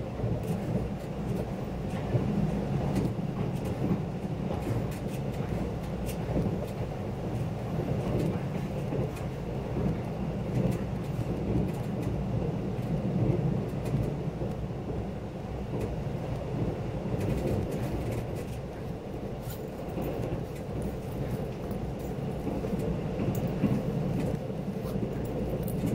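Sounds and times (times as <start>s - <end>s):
train rumble from inside: 0.0s - 25.9s.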